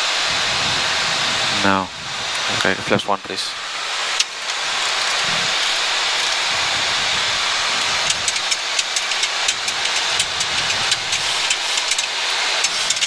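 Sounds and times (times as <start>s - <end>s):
cockpit flight noise hiss: 0.0s - 13.0s.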